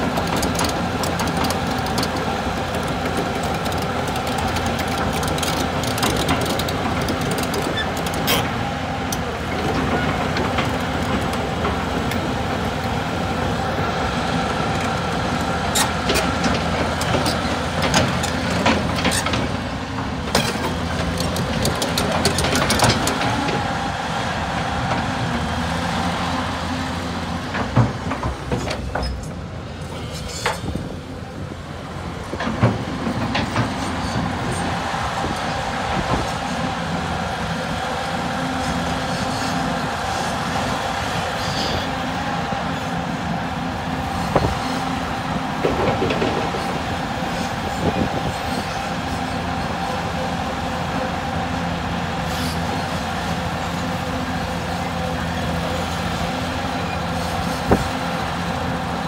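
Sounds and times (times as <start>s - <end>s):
diesel engine running: 0.0s - 59.0s
steel tracks clanking: 0.0s - 59.0s.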